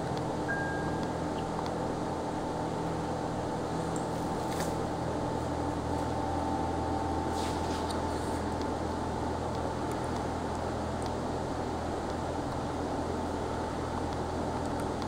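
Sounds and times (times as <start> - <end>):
faint high whine: 0.0 - 15.0
fans humming: 0.0 - 15.0.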